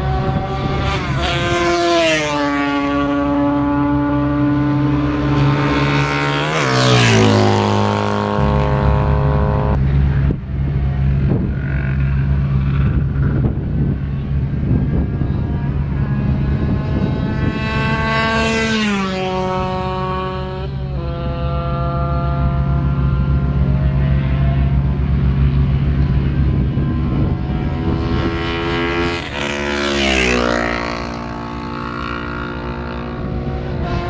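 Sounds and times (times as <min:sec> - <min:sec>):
motorcycle passing at speed: 0:00.0 - 0:34.0.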